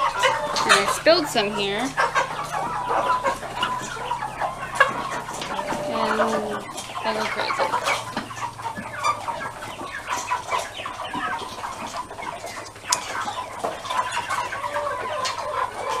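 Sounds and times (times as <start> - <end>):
chickens clucking and chirping: 0.0 - 16.0.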